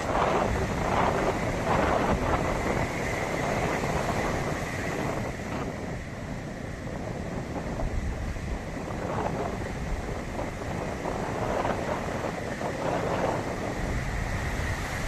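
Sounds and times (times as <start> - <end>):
waves breaking on beach: 0.0 - 15.0
wind rumbling on microphone: 0.0 - 15.0.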